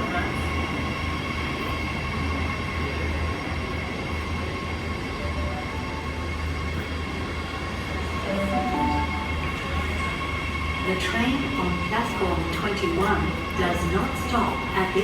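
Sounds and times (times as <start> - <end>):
electric train motor hum and whine: 0.0 - 15.0.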